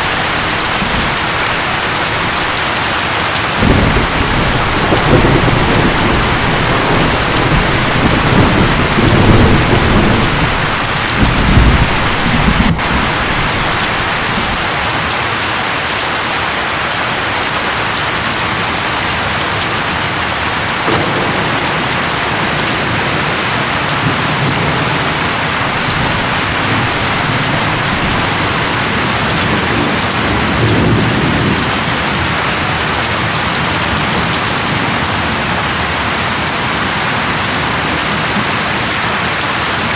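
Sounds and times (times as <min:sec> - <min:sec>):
thunder rumbling: 0:00.0 - 0:15.0, 0:18.8 - 0:36.0
heavy rain falling: 0:00.0 - 0:39.9.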